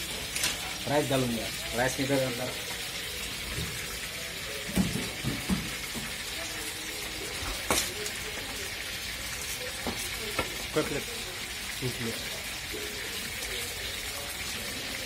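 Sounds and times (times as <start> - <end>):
nuts frying in a wok: 0.0 - 15.0.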